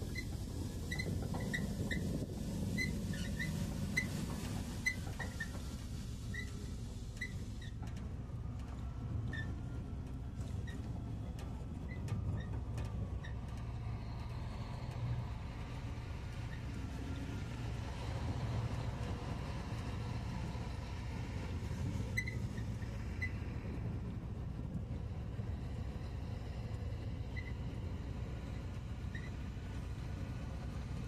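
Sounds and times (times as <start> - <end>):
truck diesel engine rumbling: 0.0 - 31.0.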